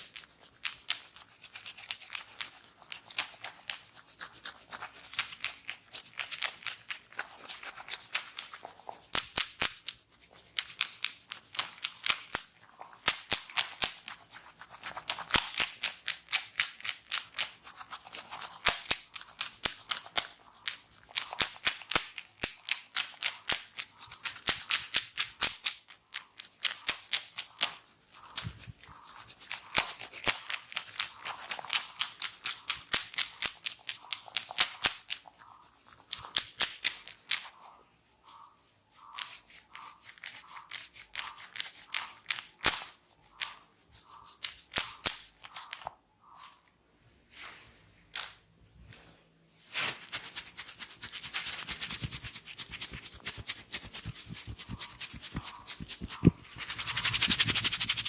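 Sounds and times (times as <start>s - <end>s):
hands crackling in hair: 0.0s - 46.6s, 49.7s - 58.0s
hands rubbing against hair: 0.0s - 46.7s, 49.6s - 58.0s.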